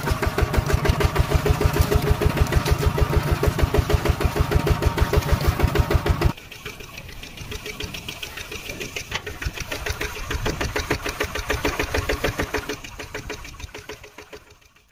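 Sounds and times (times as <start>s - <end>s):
tractor engine knocking: 0.0s - 14.9s.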